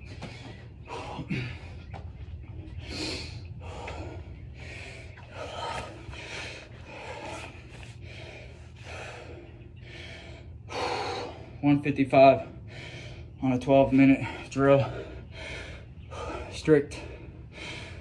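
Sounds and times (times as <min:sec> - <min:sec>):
man breathing hard: 0:00.0 - 0:02.0, 0:02.7 - 0:11.6, 0:12.2 - 0:18.0.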